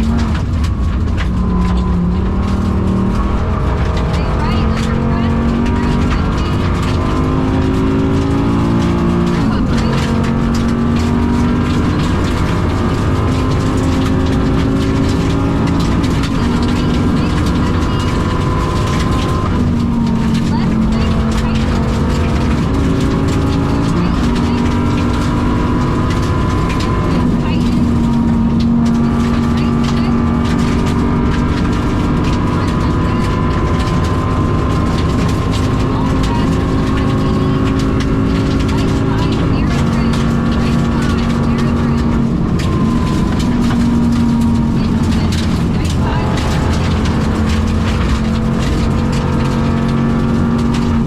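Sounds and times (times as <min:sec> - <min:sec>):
gearbox whine: 0:00.0 - 0:51.0
misfiring rally car engine: 0:00.0 - 0:51.0
sharp clicks and cracks: 0:00.0 - 0:51.0.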